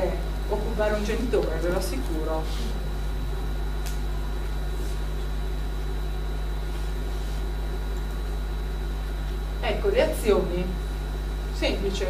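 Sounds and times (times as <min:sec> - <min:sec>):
faint high whine: 0:00.0 - 0:12.0
steady low hum: 0:00.0 - 0:12.0.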